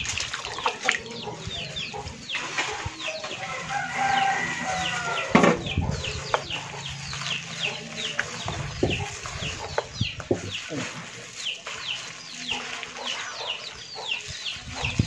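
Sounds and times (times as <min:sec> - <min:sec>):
chickens peeping: 0:00.0 - 0:15.0.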